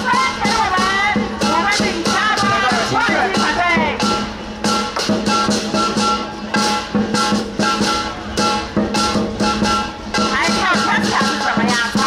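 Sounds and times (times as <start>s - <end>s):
drum beat: 0.0s - 12.0s.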